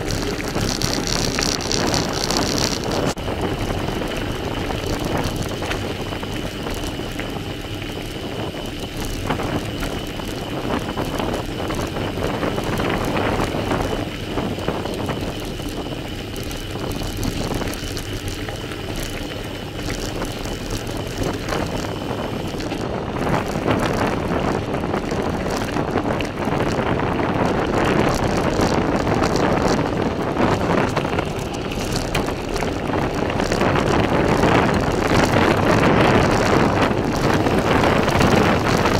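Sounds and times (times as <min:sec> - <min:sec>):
bicycle tyres crunching on gravel: 0:00.0 - 0:38.9
bike and camera rattling: 0:00.0 - 0:38.9
wind on microphone: 0:00.0 - 0:38.9.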